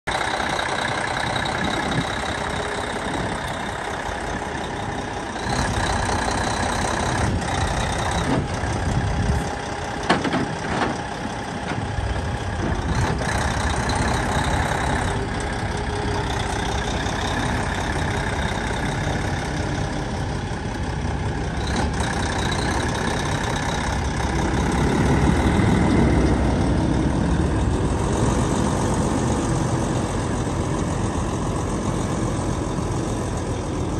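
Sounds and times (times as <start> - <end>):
truck diesel engine running: 0.1 - 33.9.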